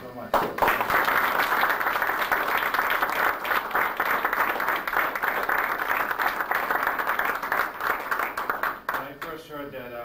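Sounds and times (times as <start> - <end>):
people applauding: 0.4 - 9.4.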